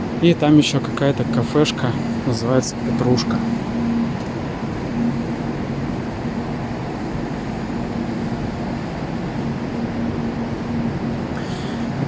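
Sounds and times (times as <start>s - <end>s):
airport terminal background noise: 0.0s - 12.0s
faint steady hum: 0.0s - 12.0s.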